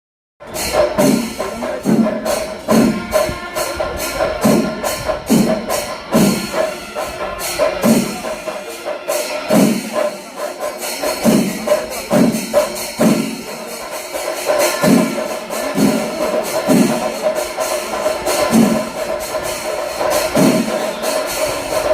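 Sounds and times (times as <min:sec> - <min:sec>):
drums beating a steady rhythm: 0:00.4 - 0:21.9
small hand cymbals clashing: 0:00.5 - 0:21.9.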